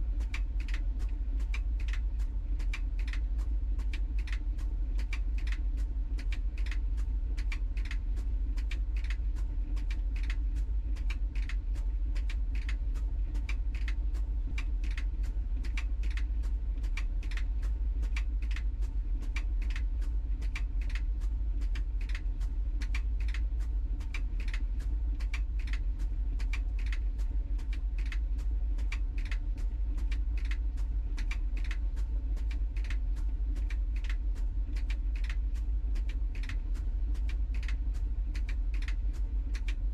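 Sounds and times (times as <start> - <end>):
light clicks of tumbling load: 0.0 - 39.9
tumble dryer drum rumbling: 0.0 - 39.9.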